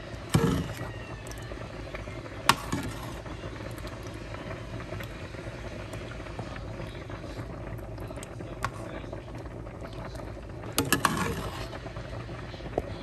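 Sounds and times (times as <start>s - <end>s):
sauce bubbling in a pan: 0.0s - 13.0s
steady low hum: 0.0s - 13.0s.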